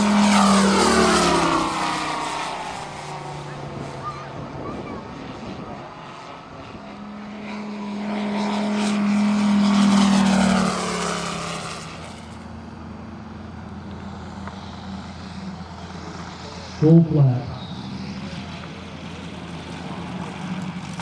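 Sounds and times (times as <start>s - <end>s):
model plane engine fly-by: 0.0s - 21.0s.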